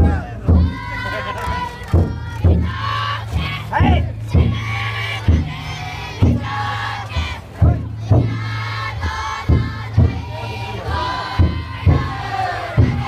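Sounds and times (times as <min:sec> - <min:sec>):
big drum beats: 0:00.0 - 0:13.0
people chanting in unison: 0:00.0 - 0:13.0.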